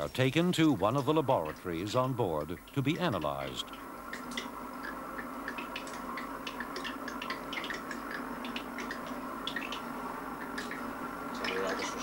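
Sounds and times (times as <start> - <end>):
machine hum: 0.0 - 12.0
light ticking and clicking: 0.8 - 11.9.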